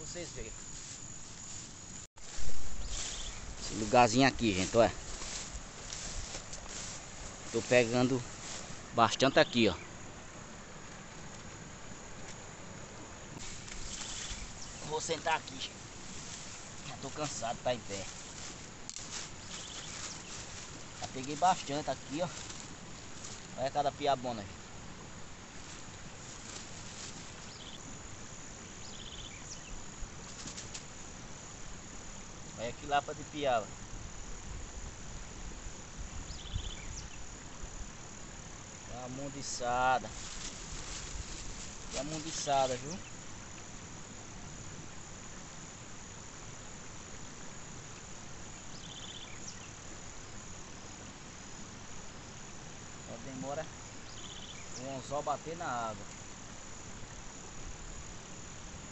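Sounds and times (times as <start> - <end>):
insect chirps: 0.0 - 58.9
outdoor background hiss: 0.0 - 58.9.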